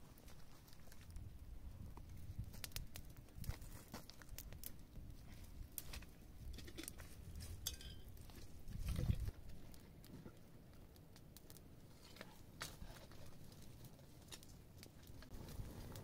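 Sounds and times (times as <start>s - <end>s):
twig fire crackling and popping: 0.0s - 16.0s.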